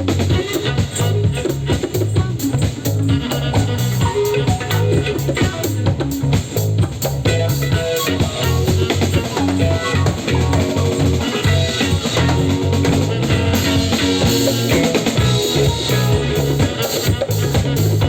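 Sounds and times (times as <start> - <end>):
drum kit beat: 0.0 - 18.0
electric bass line: 0.0 - 18.0
guitar: 0.0 - 18.0
keyboards: 0.0 - 18.0
percussion: 0.0 - 18.0.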